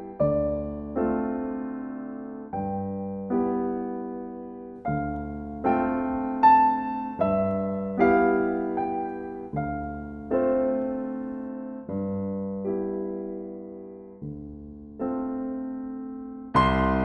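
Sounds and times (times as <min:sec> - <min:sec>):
gentle keyboard chords: 0:00.0 - 0:17.0.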